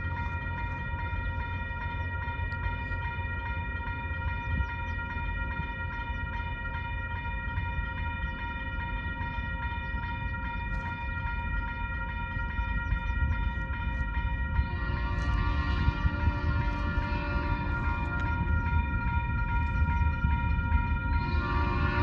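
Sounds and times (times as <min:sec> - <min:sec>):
freight train rumble: 0:00.0 - 0:22.0
steady high-pitched tone: 0:00.0 - 0:22.0.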